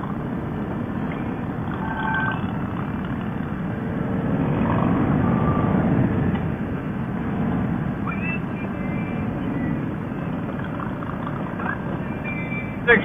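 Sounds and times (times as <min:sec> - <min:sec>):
wind rush: 0:00.0 - 0:12.9
motorcycle engine rumble: 0:00.0 - 0:13.0.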